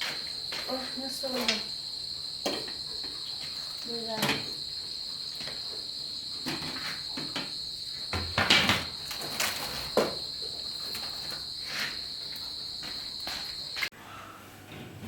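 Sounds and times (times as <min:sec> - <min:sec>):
crickets trilling: 0:00.0 - 0:13.9.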